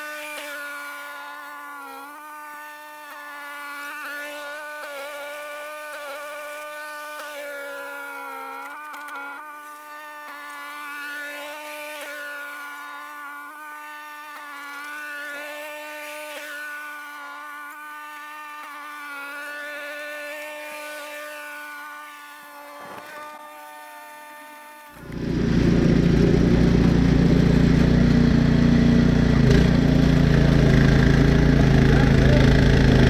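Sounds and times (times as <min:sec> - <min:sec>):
snowblower engine buzzing drone: 0:00.0 - 0:33.0.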